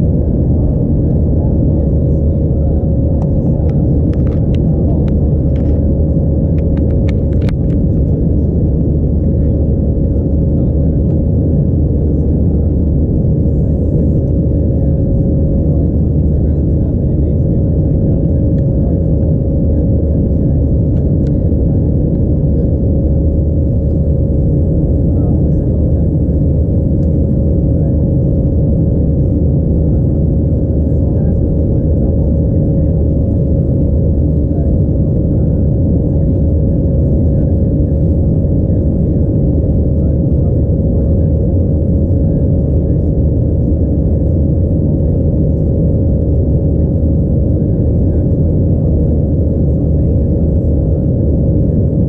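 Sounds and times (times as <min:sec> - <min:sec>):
airplane cabin engine rumble: 0:00.0 - 0:52.0
thin steady hum: 0:00.0 - 0:52.0.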